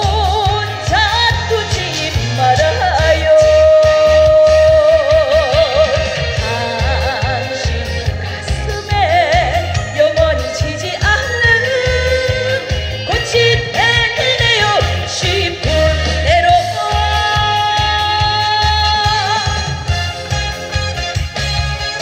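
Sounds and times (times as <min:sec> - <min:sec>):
pop song through a loudspeaker: 0:00.0 - 0:22.0.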